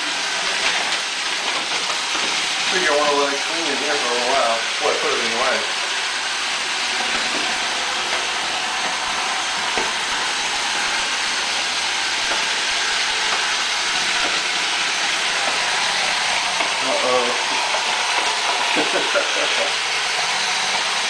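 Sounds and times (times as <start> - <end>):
robot vacuum hissing: 0.0 - 21.0.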